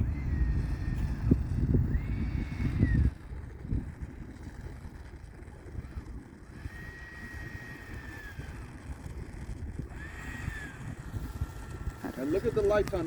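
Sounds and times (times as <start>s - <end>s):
electric ducted fan whine: 0.0s - 13.0s
wind gusting over microphone: 0.0s - 13.0s.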